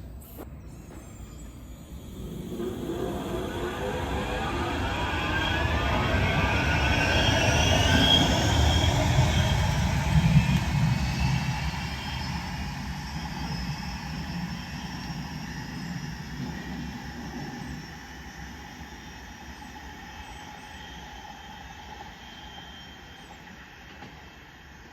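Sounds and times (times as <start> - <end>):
tram passing with whine and rumble: 0.0 - 24.9.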